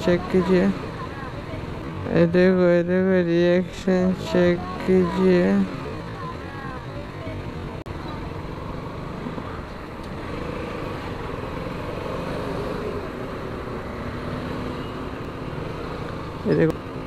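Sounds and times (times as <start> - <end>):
motorcycle engine: 0.0 - 17.0
surrounding traffic: 0.0 - 17.0.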